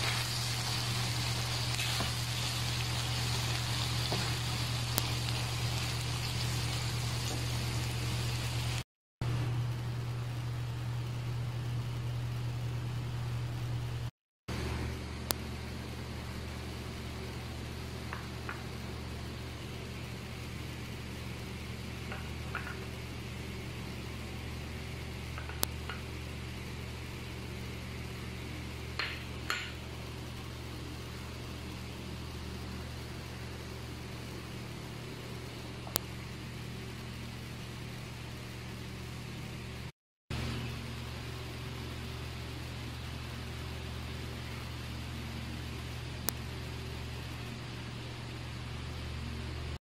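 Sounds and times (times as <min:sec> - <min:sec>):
low mechanical hum: 0:00.0 - 0:49.8.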